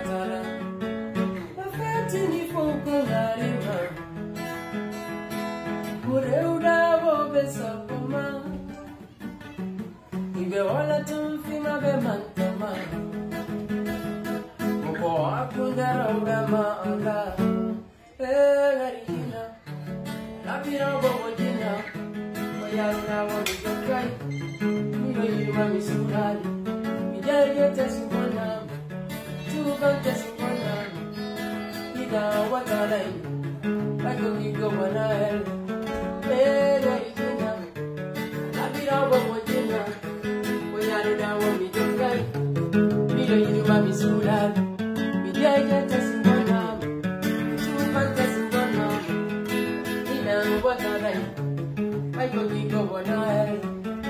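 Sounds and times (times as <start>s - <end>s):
person singing: 0.0s - 4.0s, 5.6s - 54.0s
acoustic guitar chords: 0.0s - 54.0s.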